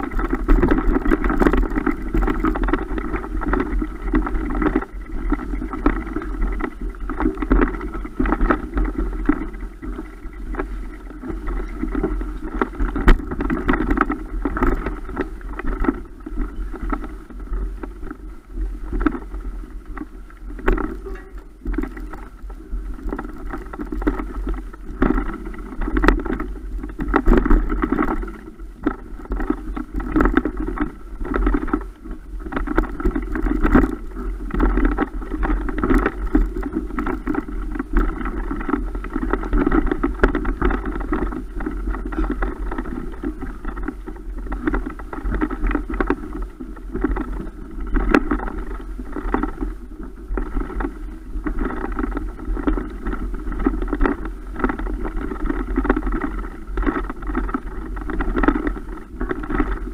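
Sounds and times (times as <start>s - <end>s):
muffled rumbling: 0.0s - 59.9s.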